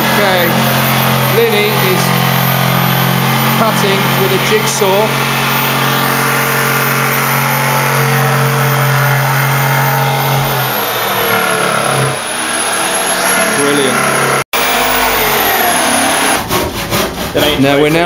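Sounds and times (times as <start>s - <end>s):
electric jigsaw cutting wood: 0.0s - 16.5s.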